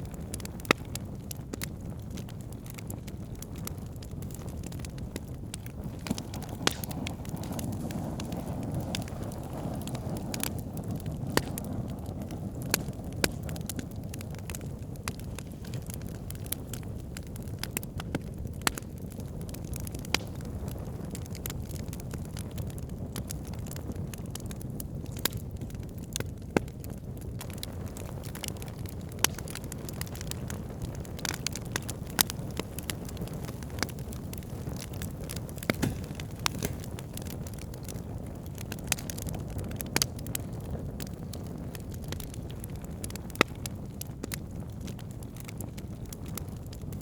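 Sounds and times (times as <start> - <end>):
campfire flames rushing: 0.0 - 47.0
fire crackling and popping: 0.0 - 47.0.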